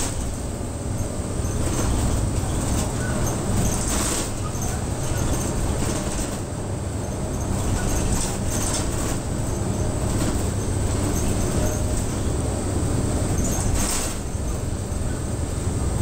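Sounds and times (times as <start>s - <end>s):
bus engine drone: 0.0s - 16.0s
low road rumble: 0.0s - 16.0s.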